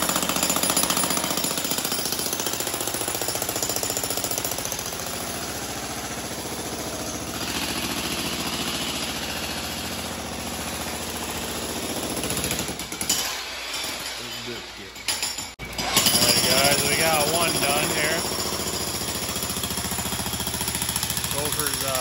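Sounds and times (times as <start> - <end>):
jackhammer chiseling concrete: 0.0 - 22.0.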